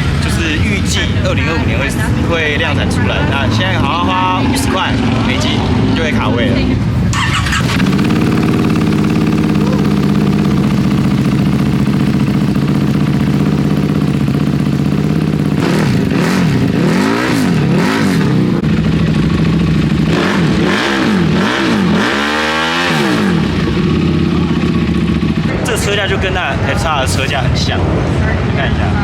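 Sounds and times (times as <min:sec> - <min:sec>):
motorcycle engine revving: 0:00.0 - 0:28.6.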